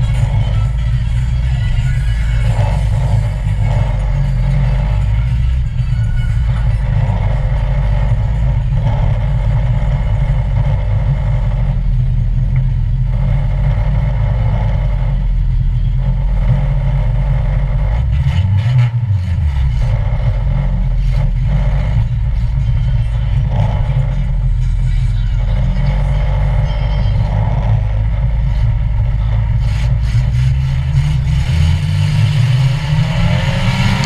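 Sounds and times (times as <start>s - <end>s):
car engine rumbling: 0.0s - 34.0s.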